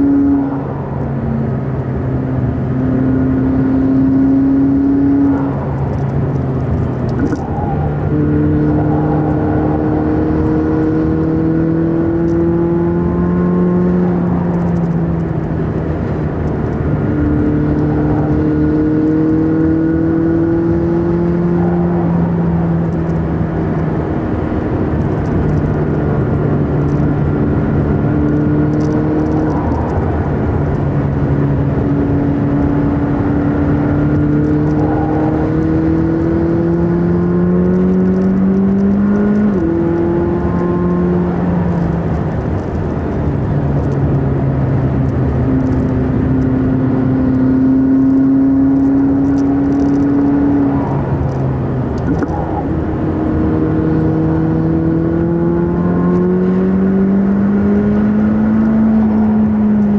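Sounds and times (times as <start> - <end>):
car engine shifting gears: 0.0 - 59.9
tyre and road noise: 0.0 - 59.9.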